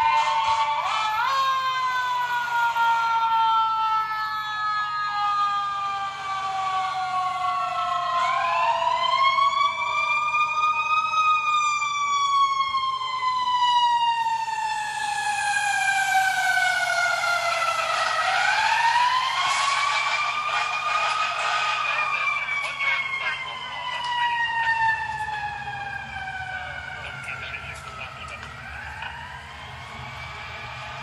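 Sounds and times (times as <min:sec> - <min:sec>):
fire truck siren wailing: 0:00.0 - 0:31.0.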